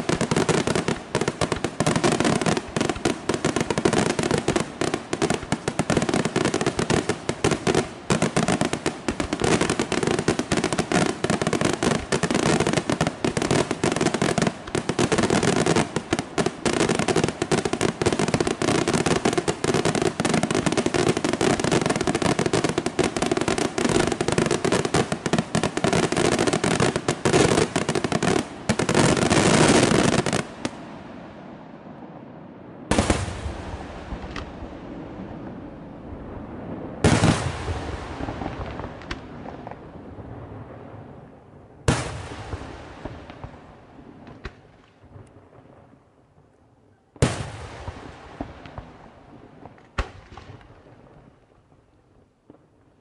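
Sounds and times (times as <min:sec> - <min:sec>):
fireworks bursting and crackling: 0:00.0 - 0:46.2, 0:47.2 - 0:53.0.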